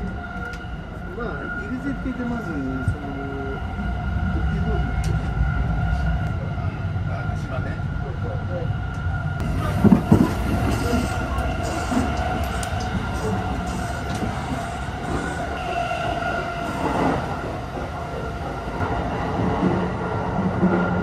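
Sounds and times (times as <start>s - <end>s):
train equipment hum: 0.0s - 21.0s.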